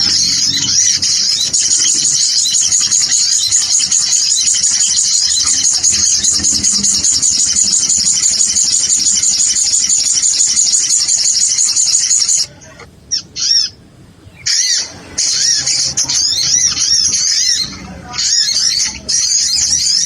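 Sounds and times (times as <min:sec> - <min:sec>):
sunbird chirping calls: 0:00.0 - 0:20.0.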